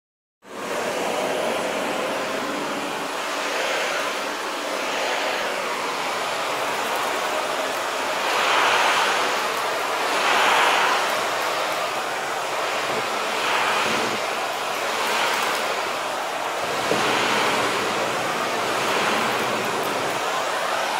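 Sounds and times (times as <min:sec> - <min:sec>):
vacuum cleaner running: 0:00.4 - 0:20.9.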